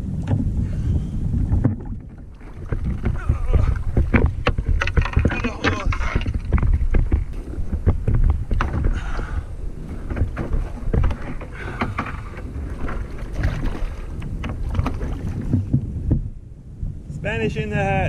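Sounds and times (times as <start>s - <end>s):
wind buffeting microphone: 0.0s - 18.0s
knocks and thumps on kayak hull: 0.1s - 0.6s, 1.3s - 16.4s.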